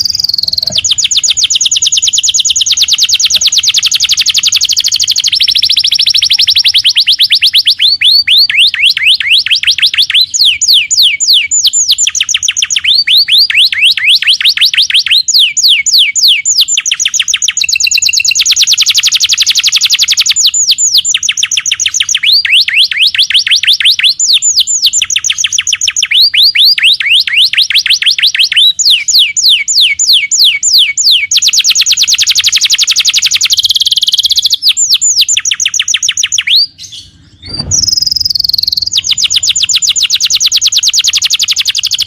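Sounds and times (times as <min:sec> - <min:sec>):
canary singing fast trills: 0:00.0 - 0:42.0.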